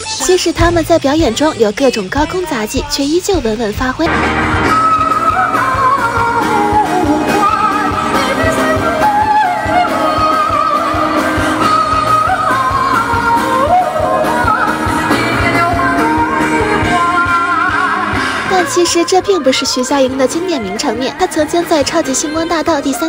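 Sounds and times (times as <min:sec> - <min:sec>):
band playing: 0:00.0 - 0:19.2.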